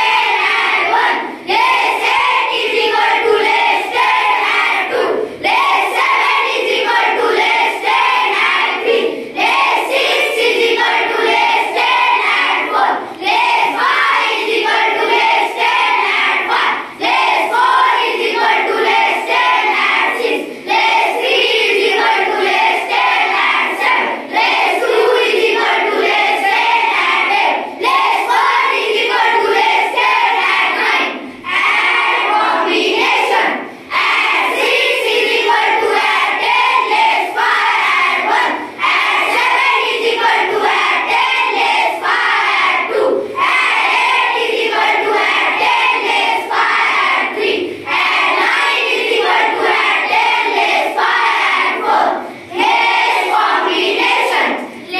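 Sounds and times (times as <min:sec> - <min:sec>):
children chanting in unison: 0:00.0 - 0:54.9.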